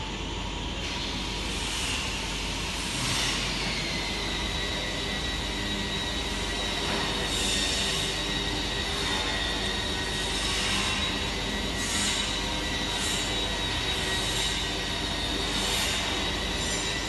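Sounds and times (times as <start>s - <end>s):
fusing press mechanical hum: 0.0s - 17.0s
thin high whine: 0.8s - 17.0s
hiss: 0.9s - 4.9s, 6.0s - 17.0s.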